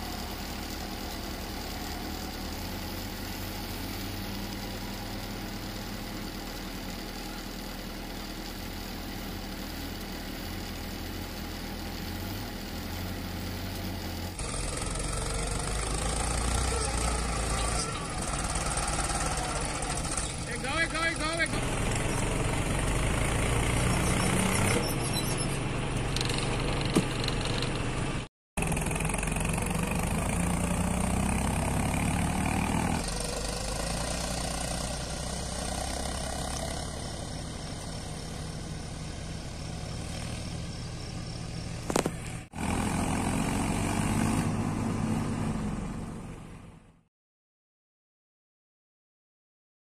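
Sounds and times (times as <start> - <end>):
diesel engines running: 0.0 - 47.0.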